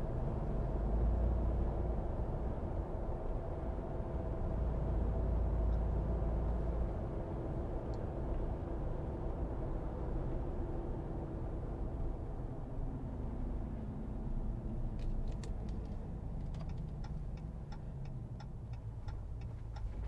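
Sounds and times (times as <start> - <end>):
tyre road rumble in cabin: 0.0 - 20.0.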